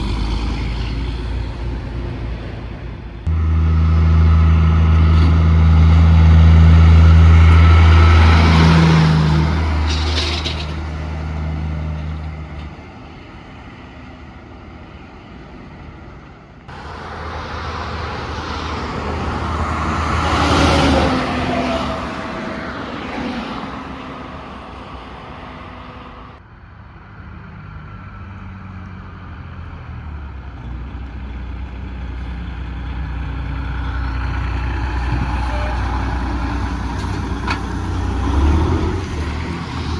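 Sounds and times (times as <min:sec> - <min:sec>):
truck engine drone: 0:00.0 - 0:39.9
vehicles passing: 0:00.0 - 0:39.9.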